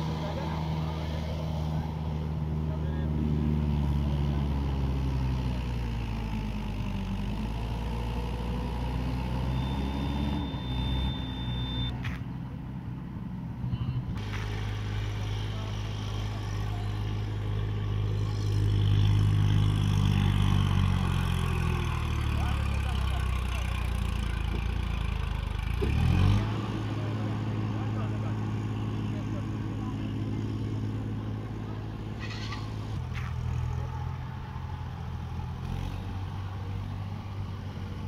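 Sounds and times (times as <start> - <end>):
motor vehicle engines running: 0.0 - 38.0.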